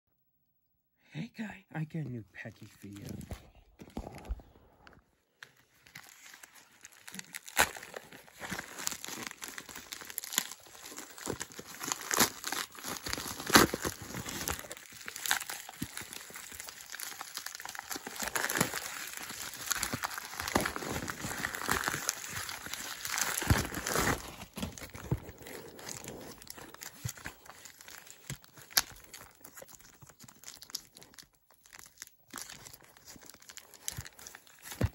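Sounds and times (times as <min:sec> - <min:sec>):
plastic mailer being torn open: 0:05.8 - 0:34.9.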